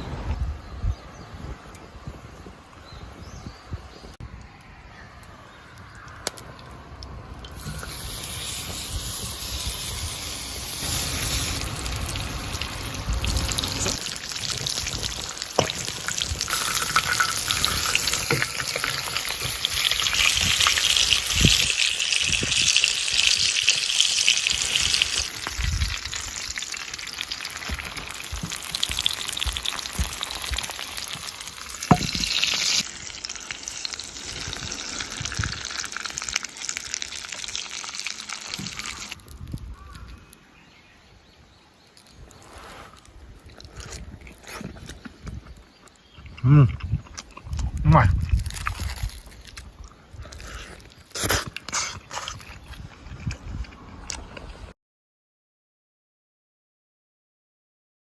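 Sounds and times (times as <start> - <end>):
chicken sizzling over campfire: 0.0 - 53.6.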